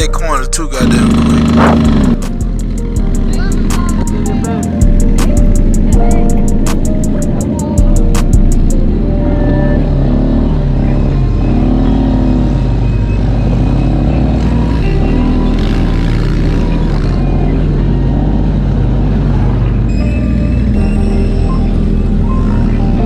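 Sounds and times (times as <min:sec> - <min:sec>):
atv engines revving: 0:00.0 - 0:23.0
background music: 0:00.0 - 0:23.0.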